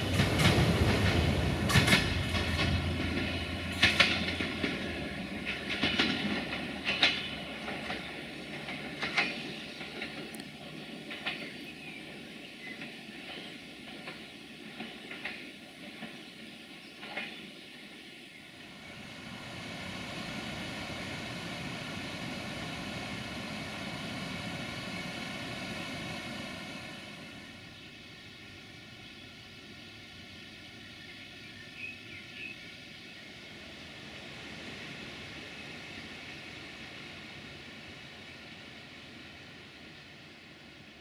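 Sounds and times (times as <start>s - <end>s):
distant train rumble: 0.0s - 41.0s.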